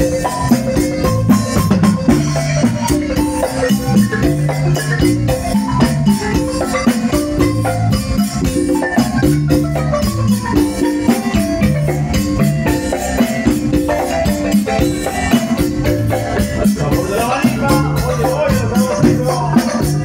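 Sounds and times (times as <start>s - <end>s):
congas: 0.0s - 20.0s
drum kit beat: 0.0s - 20.0s
electric keyboard: 0.0s - 20.0s
marimba struck with mallets: 0.0s - 20.0s.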